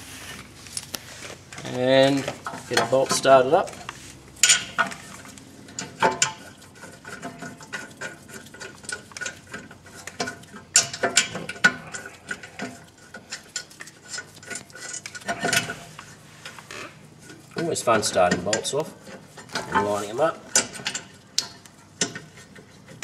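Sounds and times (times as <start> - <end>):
metallic clicks and scrapes: 0.2 - 23.0.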